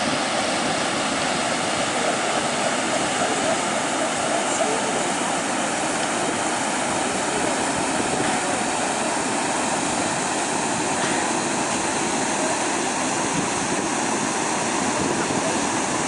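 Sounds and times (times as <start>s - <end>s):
floodwater rushing over gravel: 0.0s - 16.0s.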